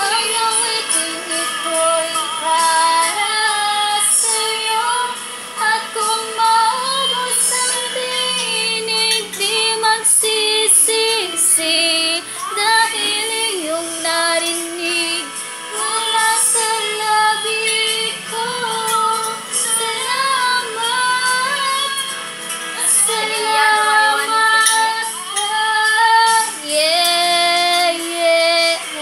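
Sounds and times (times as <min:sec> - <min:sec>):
children and women singing: 0:00.0 - 0:29.0
pop backing music from television: 0:00.0 - 0:29.0.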